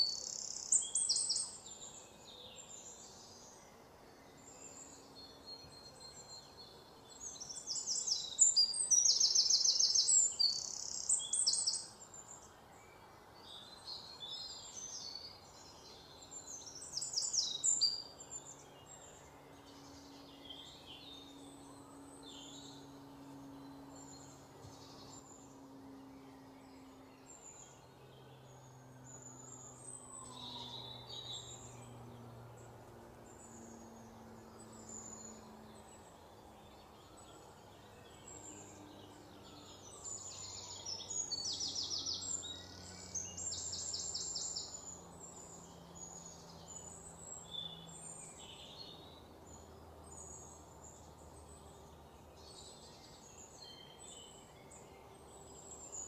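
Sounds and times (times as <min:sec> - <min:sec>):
birds chirping faintly: 0:00.0 - 0:56.0.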